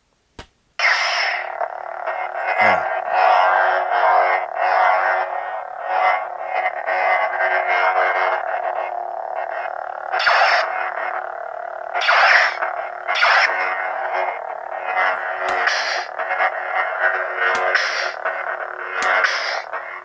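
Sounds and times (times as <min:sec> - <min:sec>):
lightsaber electronic hum: 0:00.8 - 0:20.0.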